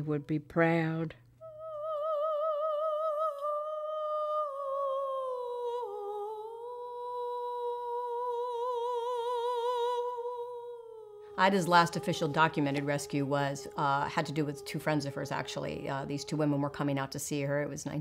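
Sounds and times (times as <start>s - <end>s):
high voice humming a melody: 1.4s - 16.7s.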